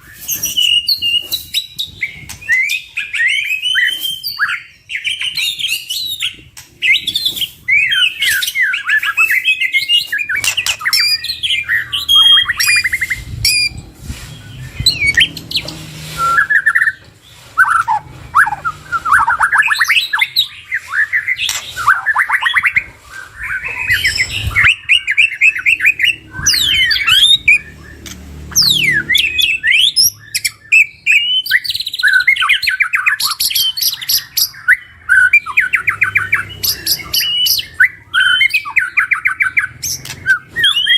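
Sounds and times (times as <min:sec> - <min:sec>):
birds singing trills and whistles: 0:00.0 - 0:40.9.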